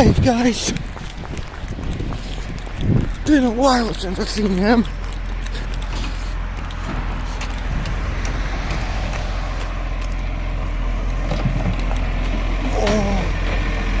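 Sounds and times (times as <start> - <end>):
garbage truck engine running: 0.0 - 14.0
road noise: 0.0 - 14.0.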